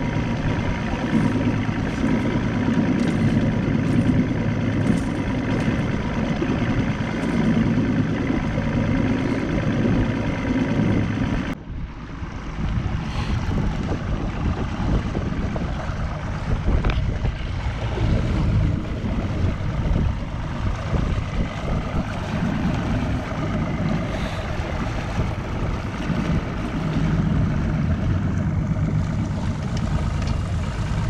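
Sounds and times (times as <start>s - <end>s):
outboard motor: 0.0s - 31.0s
water noise: 0.0s - 31.0s
wind buffeting microphone: 0.0s - 31.0s.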